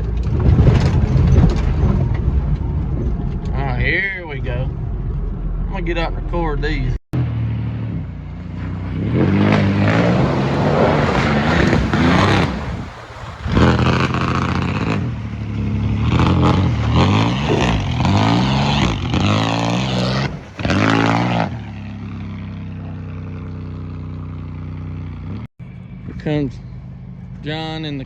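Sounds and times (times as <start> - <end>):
tyres churning through mud: 0.0 - 6.3, 7.2 - 28.0
car engine revving: 0.0 - 28.0.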